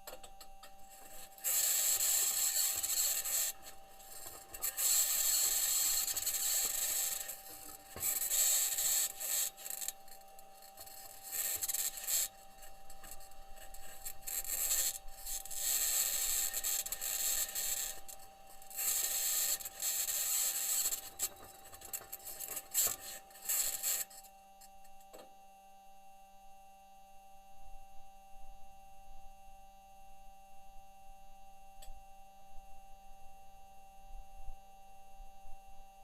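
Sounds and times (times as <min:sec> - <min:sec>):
steady electronic hum: 0:00.0 - 0:36.0.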